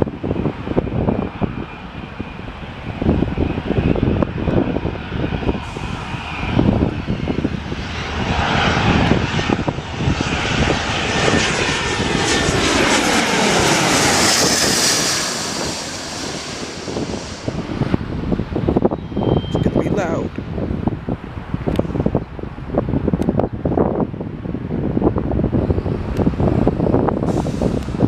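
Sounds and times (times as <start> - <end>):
airliner passing: 0.0 - 28.0
wind buffeting microphone: 0.0 - 28.0.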